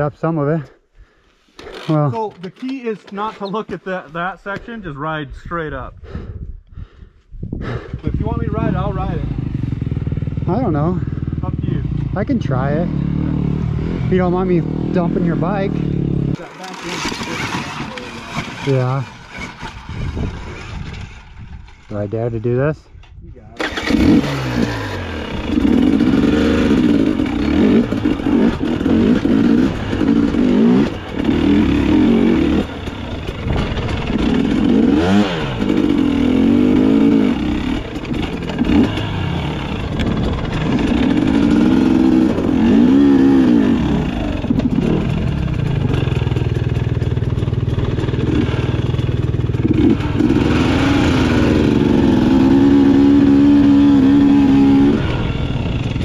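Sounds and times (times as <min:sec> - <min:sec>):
dirt bike engine revving: 0:07.7 - 0:22.1, 0:23.6 - 0:56.0.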